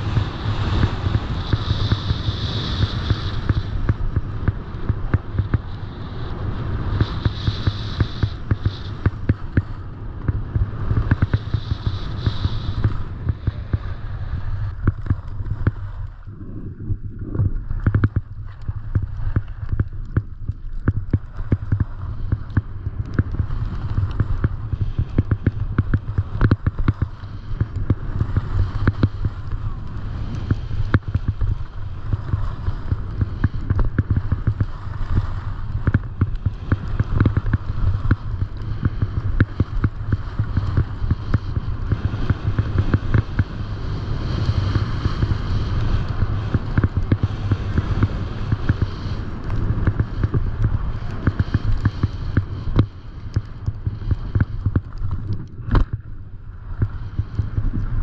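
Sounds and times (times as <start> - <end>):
wind rumbling over microphone: 0.0 - 58.0.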